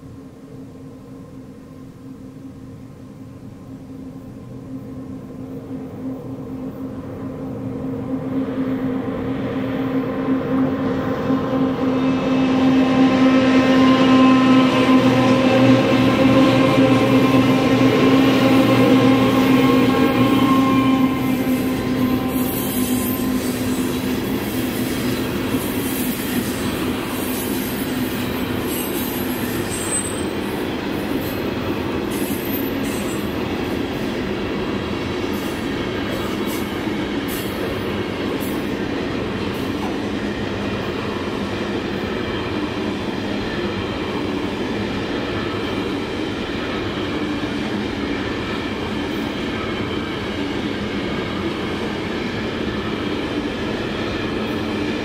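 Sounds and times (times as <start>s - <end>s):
electric locomotive hum: 0.0s - 55.0s
train wheels rumbling on rail: 0.0s - 55.0s.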